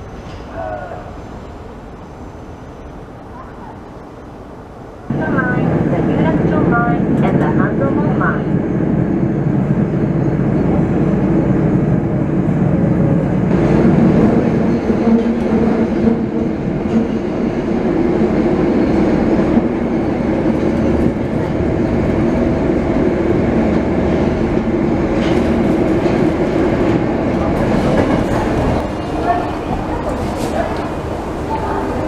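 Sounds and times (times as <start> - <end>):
subway train rumbling in tunnel: 0.0 - 32.0.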